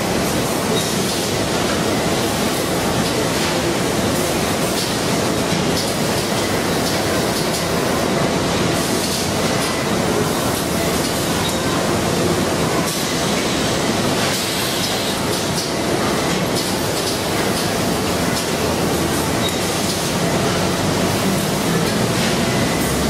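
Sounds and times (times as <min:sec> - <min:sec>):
packing machinery running: 0:00.0 - 0:23.0.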